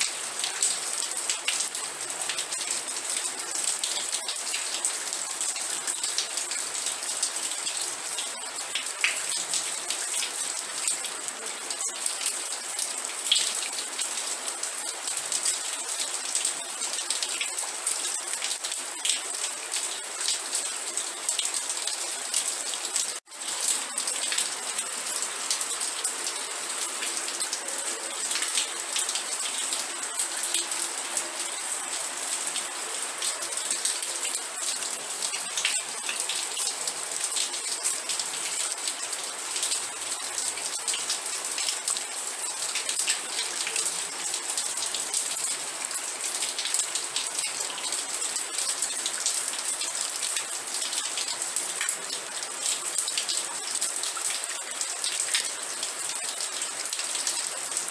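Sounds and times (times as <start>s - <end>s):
raindrops hitting a surface: 0.0s - 57.9s
steady rain: 0.0s - 57.9s.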